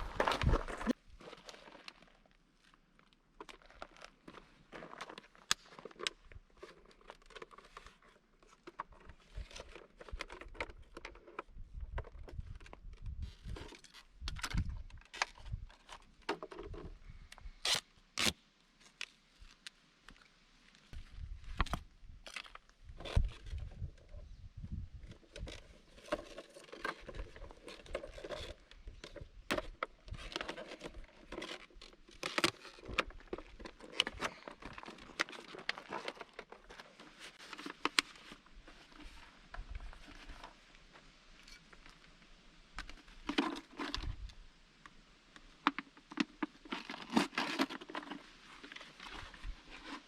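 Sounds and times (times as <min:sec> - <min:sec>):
gear rustling and crinkling: 0:00.0 - 0:19.7, 0:25.1 - 0:44.3, 0:45.6 - 0:50.0.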